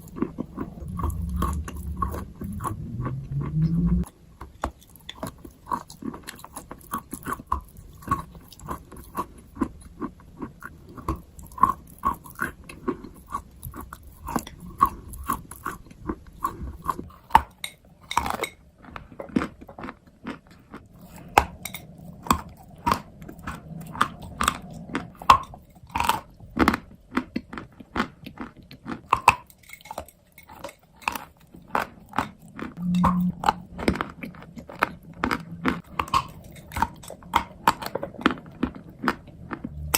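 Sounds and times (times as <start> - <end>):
person chewing crunchy chalk: 0.0 - 39.9.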